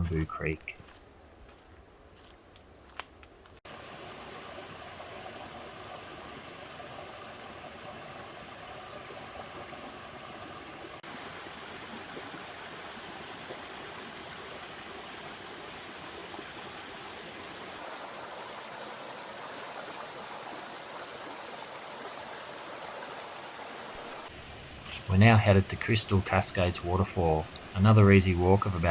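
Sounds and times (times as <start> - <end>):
creek water rushing over rocks: 3.7 - 28.9.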